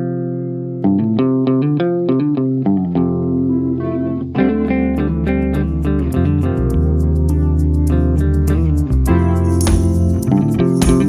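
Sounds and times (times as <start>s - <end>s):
guitar-led instrumental music: 0.0s - 11.0s.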